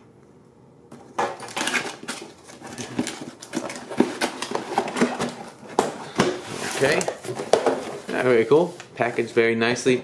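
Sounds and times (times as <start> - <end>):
cardboard scraping and rustling: 1.4 - 10.0.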